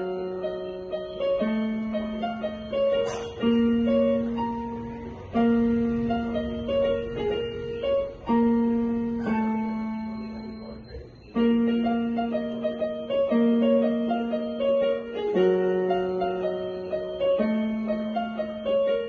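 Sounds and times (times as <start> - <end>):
electronic keyboard melody: 0.0 - 19.0.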